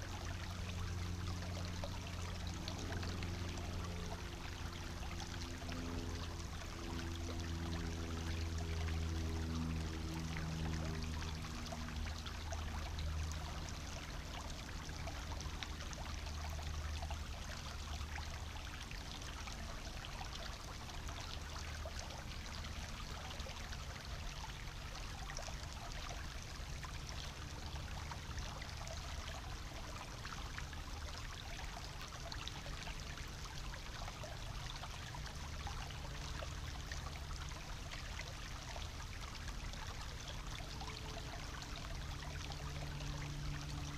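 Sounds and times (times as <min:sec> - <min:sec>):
brook babbling over stones: 0:00.0 - 0:43.9.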